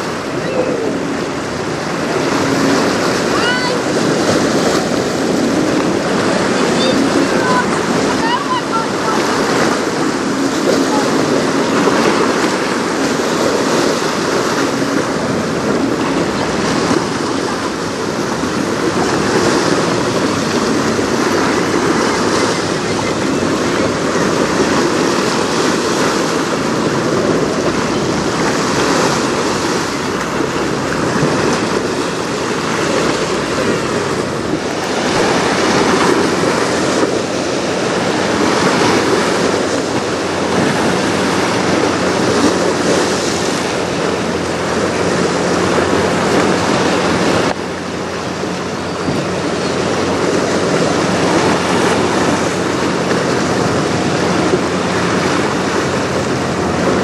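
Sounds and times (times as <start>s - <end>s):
choppy river water: 0.0s - 57.0s
outboard motor hum: 0.0s - 57.0s
wind buffeting microphone: 0.0s - 57.0s.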